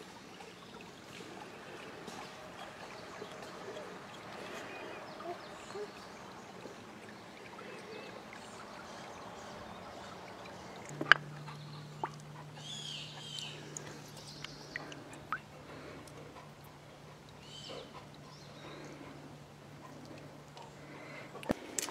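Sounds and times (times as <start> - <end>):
stream trickling: 0.0 - 21.9
birds chirping: 0.4 - 21.8.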